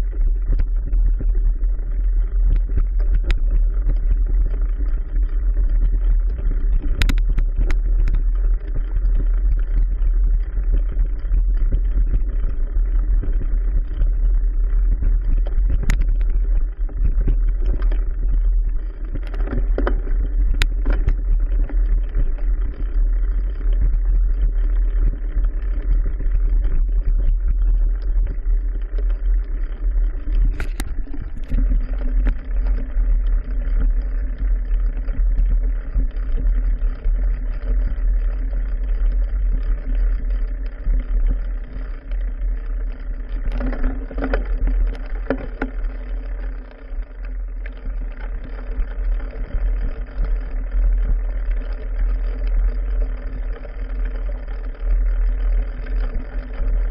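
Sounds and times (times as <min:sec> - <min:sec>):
bike tyres rumbling on trail: 0:00.0 - 0:56.9.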